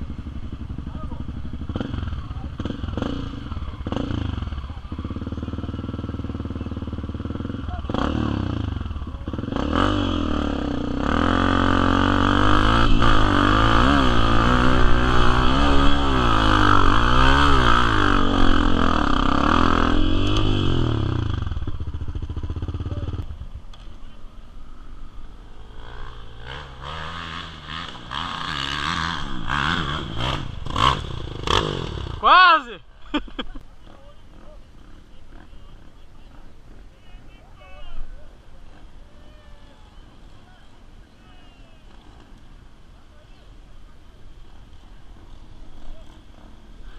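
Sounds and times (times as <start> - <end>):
motorcycle engine revving: 0.0 - 32.4, 33.3 - 37.1, 39.8 - 46.9.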